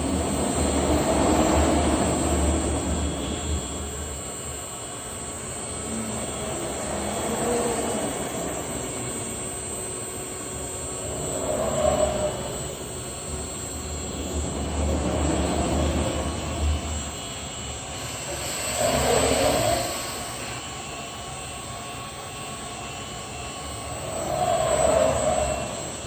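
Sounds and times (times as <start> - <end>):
cnc router machine whir: 0.0 - 26.0.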